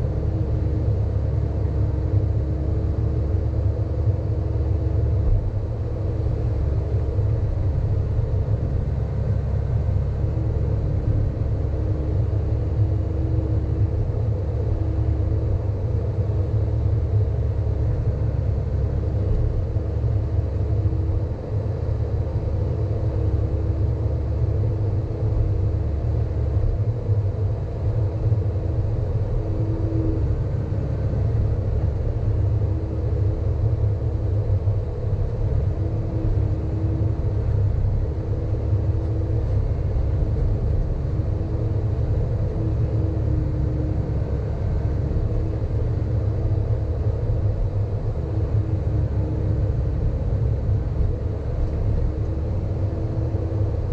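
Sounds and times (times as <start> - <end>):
constant whining tone: 0.0 - 53.9.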